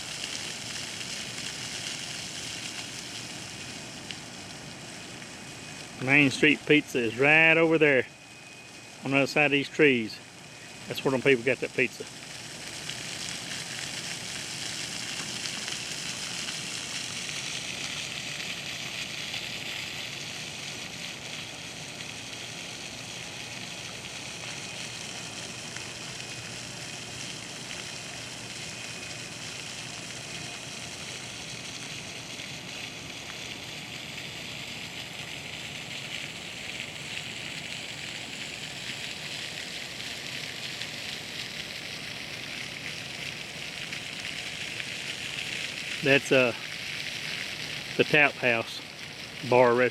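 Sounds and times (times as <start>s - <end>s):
water fountain splashing: 0.0s - 49.9s.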